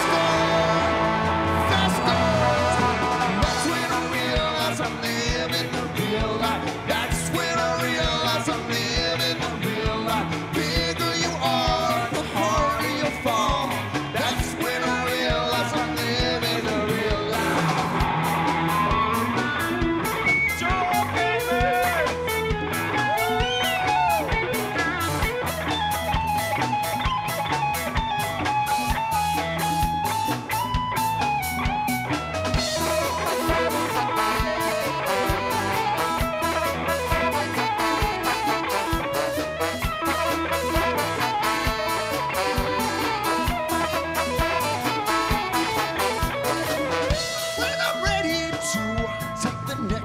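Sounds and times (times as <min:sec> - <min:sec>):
bass: 0:00.0 - 0:50.0
electric guitar lead: 0:00.0 - 0:50.0.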